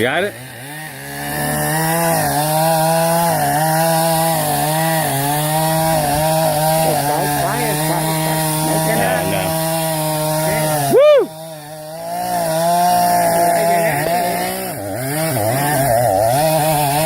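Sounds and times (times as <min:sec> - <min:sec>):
chainsaw cutting into tree: 0:00.0 - 0:17.0.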